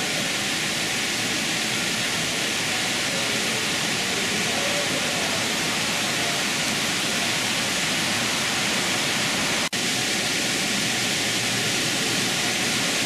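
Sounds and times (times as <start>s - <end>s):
indoor waterfall rushing: 0.0s - 13.0s.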